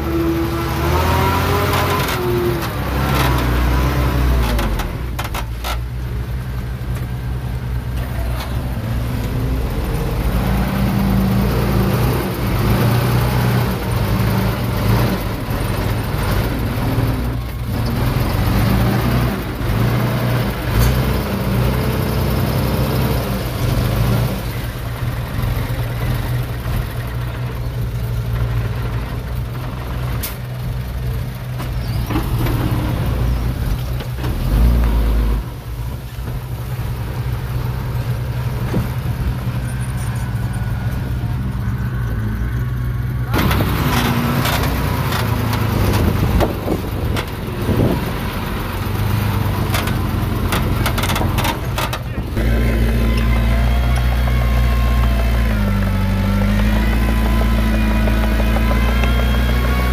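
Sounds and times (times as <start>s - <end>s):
heavy machinery diesel engine drone: 0.0s - 59.9s.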